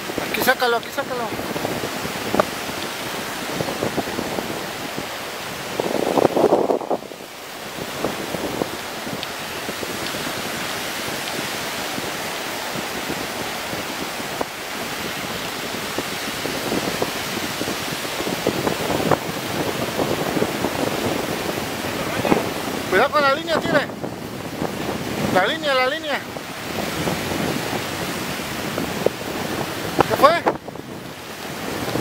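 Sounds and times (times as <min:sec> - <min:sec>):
surf breaking on a beach: 0:00.0 - 0:32.0
wind gusting on microphone: 0:00.0 - 0:32.0.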